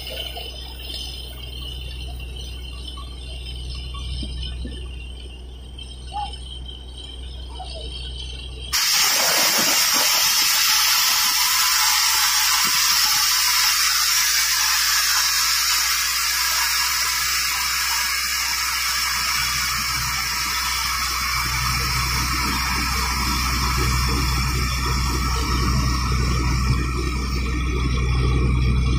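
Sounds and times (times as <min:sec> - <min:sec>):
drilling rig hissing water gush: 0:00.0 - 0:28.9
rig engine low hum: 0:00.0 - 0:28.9.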